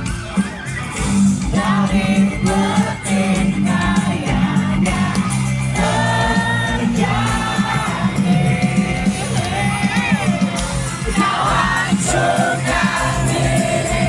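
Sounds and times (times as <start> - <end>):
live pop-rock band: 0.0 - 14.0
steady bass line: 0.0 - 14.0.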